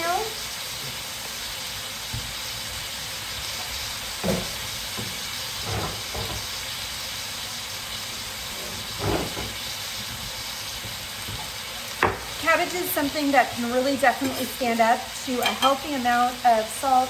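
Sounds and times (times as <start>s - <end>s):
cabbage sizzling in a pot: 0.0s - 17.0s.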